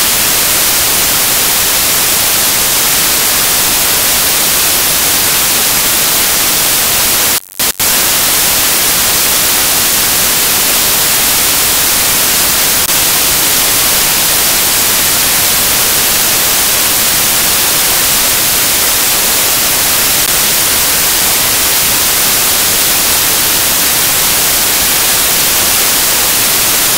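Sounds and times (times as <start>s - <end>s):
white noise static hiss: 0.0s - 26.9s.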